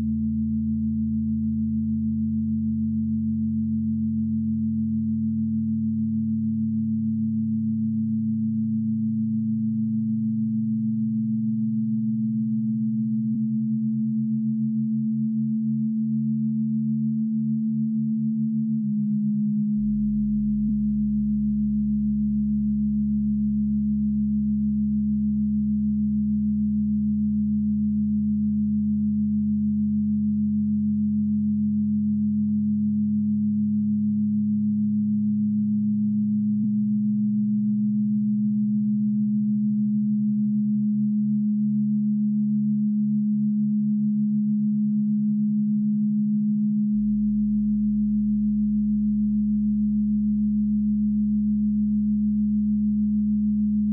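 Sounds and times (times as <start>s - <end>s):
low electronic drone: 0.0s - 53.9s.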